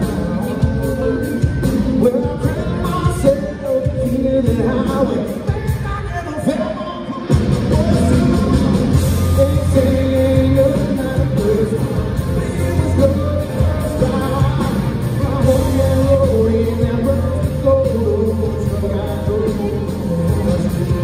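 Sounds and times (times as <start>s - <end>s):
country rock band playing: 0.0s - 21.0s
man singing: 0.0s - 21.0s.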